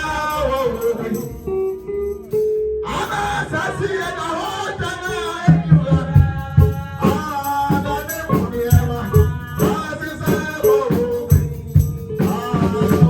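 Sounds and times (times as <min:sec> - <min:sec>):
church worship music with singing: 0:00.0 - 0:13.0.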